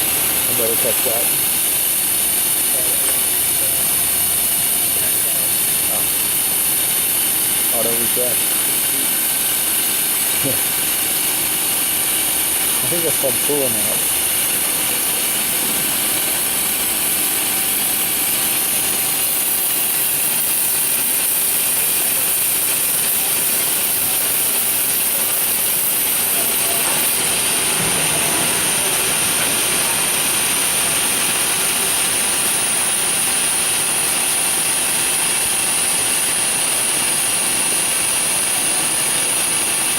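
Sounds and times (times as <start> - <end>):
grinder hissing and whining: 0.0 - 39.9.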